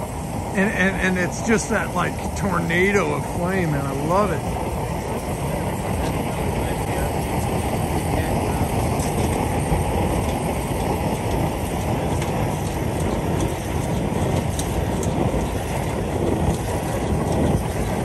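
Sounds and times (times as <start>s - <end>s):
flame burner rushing: 0.0s - 18.0s.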